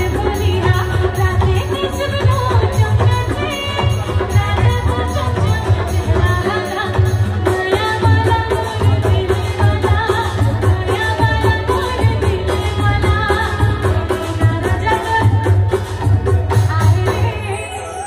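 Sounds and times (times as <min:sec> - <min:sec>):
live band playing folk music: 0:00.0 - 0:18.0
woman singing into a microphone: 0:00.0 - 0:18.0.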